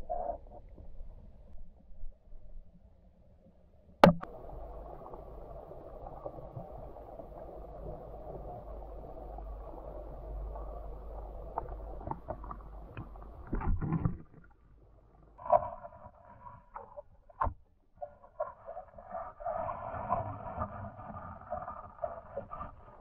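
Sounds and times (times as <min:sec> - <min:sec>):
muffled underwater stream rushing: 0:04.0 - 0:23.0.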